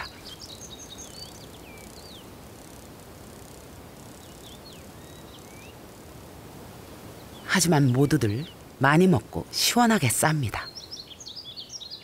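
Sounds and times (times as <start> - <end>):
small bird chirping: 0.0 - 5.9, 7.1 - 12.0
faint hiss: 0.0 - 12.0.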